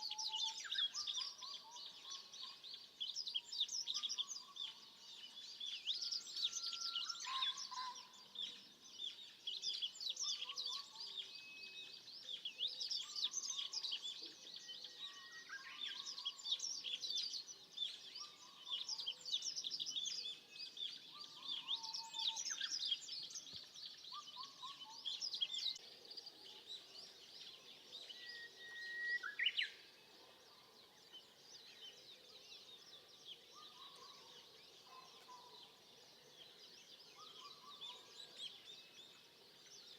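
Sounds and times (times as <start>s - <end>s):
birds twittering and trilling: 0.0s - 39.9s.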